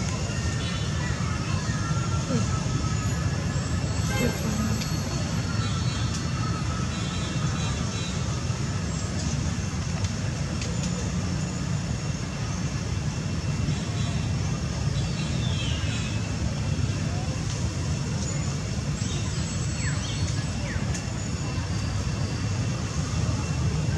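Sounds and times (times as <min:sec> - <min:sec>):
low rumbling background noise: 0:00.0 - 0:23.9.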